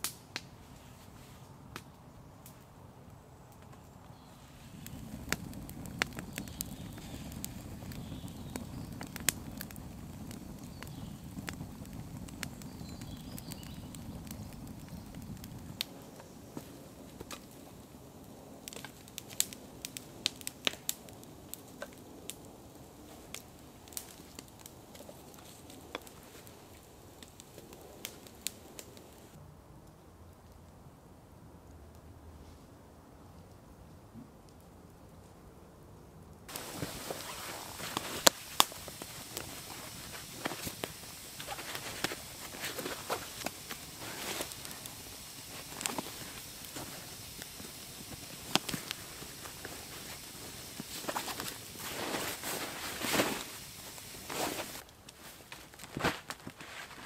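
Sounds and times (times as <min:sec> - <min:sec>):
campfire crackling and popping: 0:00.0 - 0:00.6, 0:01.7 - 0:30.7, 0:36.5 - 0:57.0.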